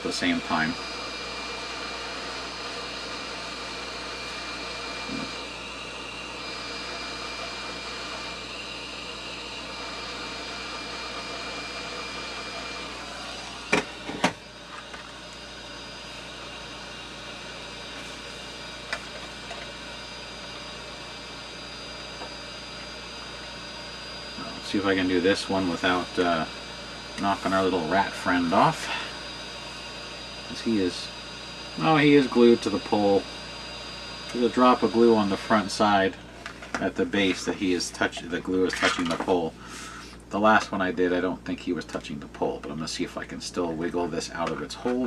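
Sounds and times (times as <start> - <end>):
heat gun whining: 0.0 - 45.0.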